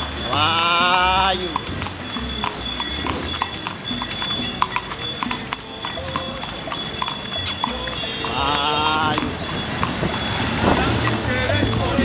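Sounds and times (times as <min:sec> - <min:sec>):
horse hooves clip-clopping: 0:00.0 - 0:12.0.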